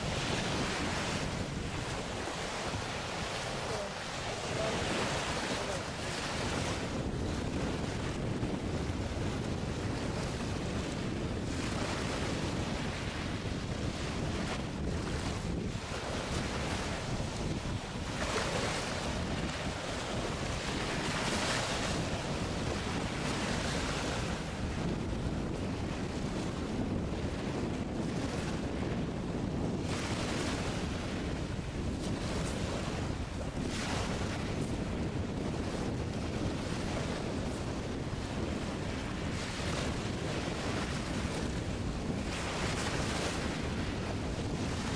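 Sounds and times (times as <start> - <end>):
wind gusts on microphone: 0.0 - 44.9.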